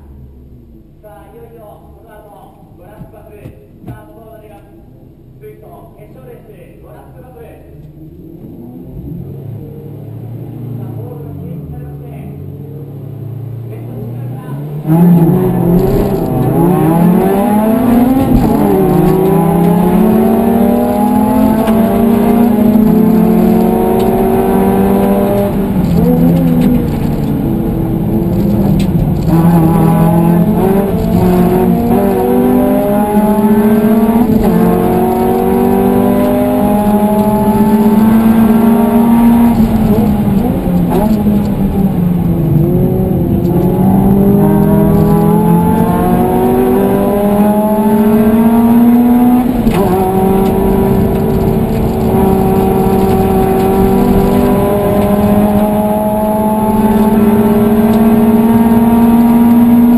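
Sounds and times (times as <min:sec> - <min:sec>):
car engine accelerating: 0:04.9 - 0:59.9.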